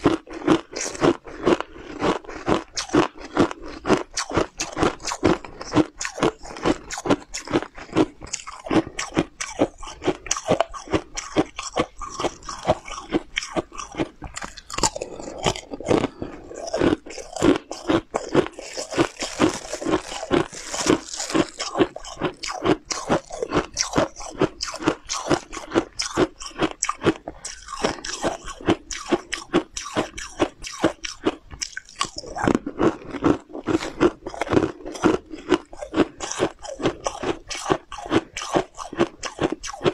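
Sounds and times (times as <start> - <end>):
crunchy snack chewing: 0.0 - 39.9.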